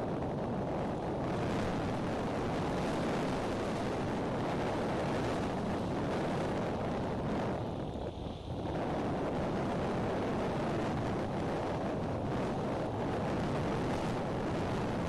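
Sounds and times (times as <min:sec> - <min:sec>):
gusty wind on microphone: 0:00.0 - 0:15.0.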